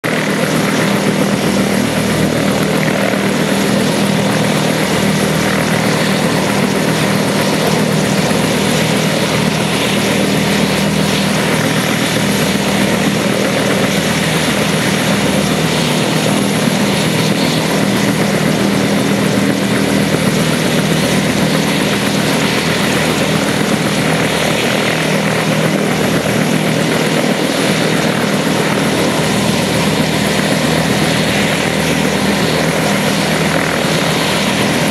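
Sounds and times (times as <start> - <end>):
helicopter running: 0.0 - 34.9.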